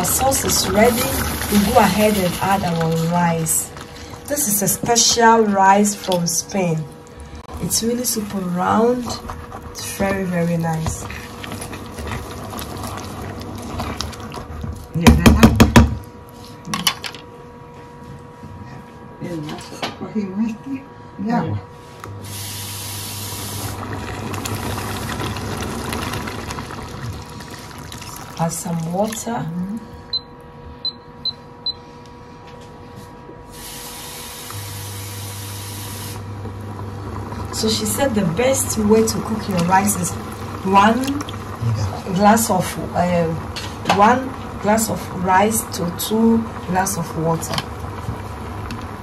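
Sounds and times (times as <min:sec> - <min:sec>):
low steady hum: 0:00.0 - 0:33.5, 0:34.1 - 0:49.0.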